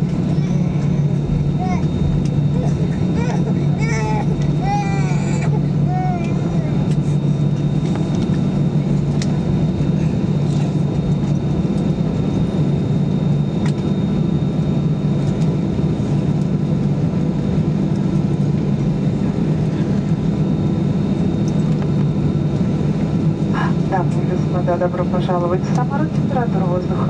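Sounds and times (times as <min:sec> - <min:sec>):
aircraft cabin low hum: 0:00.0 - 0:27.0.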